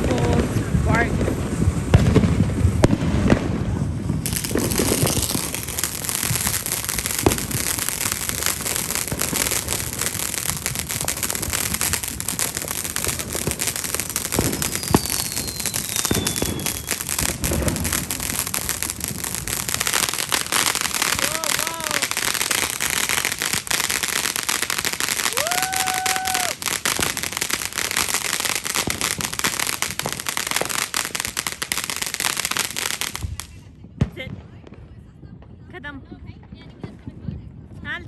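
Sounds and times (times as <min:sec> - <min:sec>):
sharp firework pops: 0:00.0 - 0:35.5
fireworks crackling: 0:00.0 - 0:38.0.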